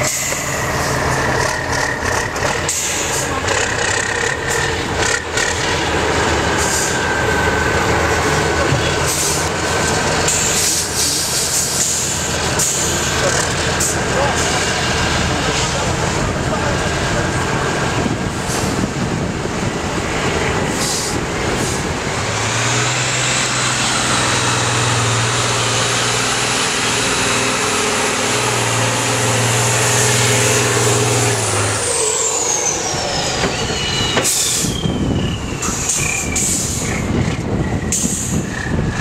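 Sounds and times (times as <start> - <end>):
high engine whine: 0.0 - 39.0
truck diesel engine working hard: 0.0 - 39.0.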